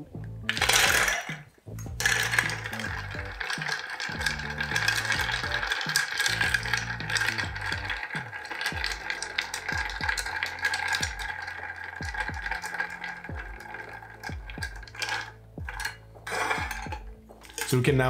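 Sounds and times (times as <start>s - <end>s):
ice cubes clinking in glass: 0.5s - 1.4s, 2.0s - 17.8s.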